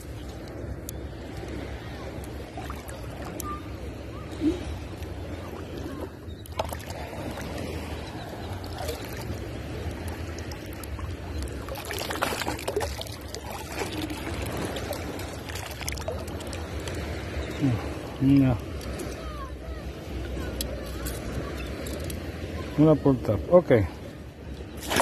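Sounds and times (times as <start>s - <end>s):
seawater sloshing and splashing: 0.0s - 22.0s, 24.6s - 25.0s.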